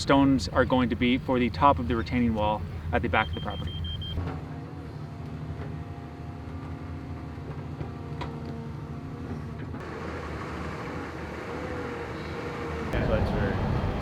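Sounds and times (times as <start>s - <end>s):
heavy machinery engine humming: 0.0s - 14.0s.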